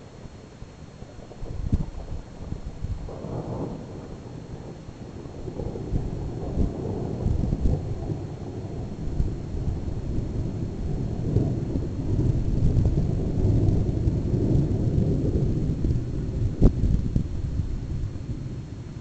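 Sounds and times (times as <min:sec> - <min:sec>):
rolling thunder rumble: 0:01.0 - 0:19.0.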